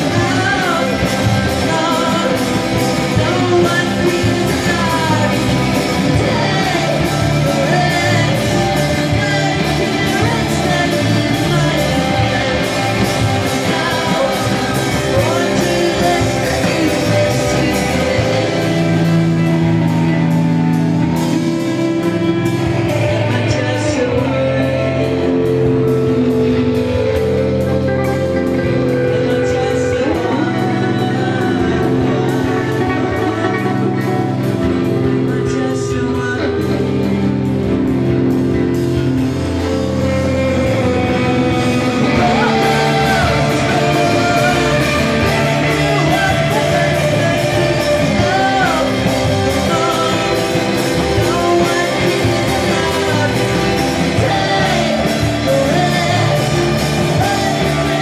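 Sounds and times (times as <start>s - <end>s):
bass guitar: 0.0s - 58.0s
drum kit: 0.0s - 58.0s
electric guitars: 0.0s - 58.0s
keyboard: 0.0s - 58.0s
person singing: 0.0s - 58.0s.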